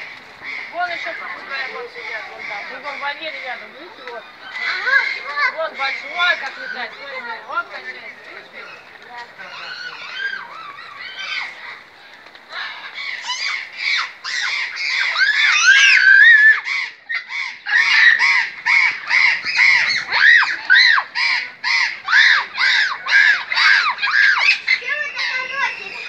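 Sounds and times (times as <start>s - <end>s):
macaws squawking: 0.0s - 26.0s.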